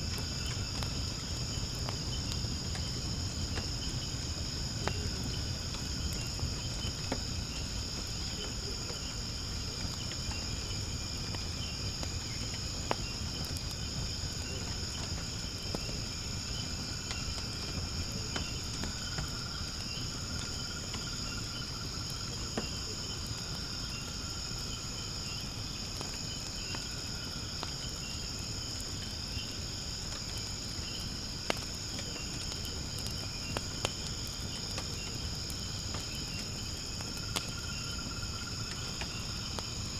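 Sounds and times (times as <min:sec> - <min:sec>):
fire popping: 0:00.0 - 0:39.9
insects chorus: 0:00.0 - 0:39.9
wood fire burning: 0:00.0 - 0:39.9.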